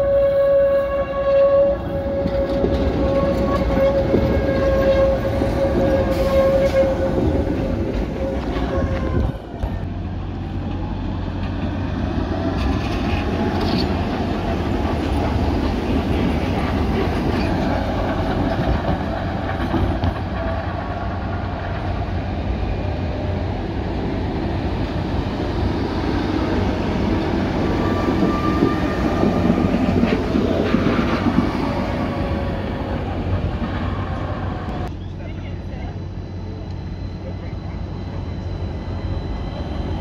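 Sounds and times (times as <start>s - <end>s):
tram wheels rumbling on rail: 0.0s - 40.0s.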